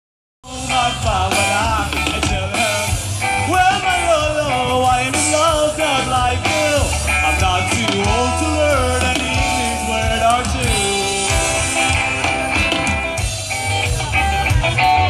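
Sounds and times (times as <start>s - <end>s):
heavy bass: 0.4s - 15.0s
live music with singer: 0.4s - 15.0s.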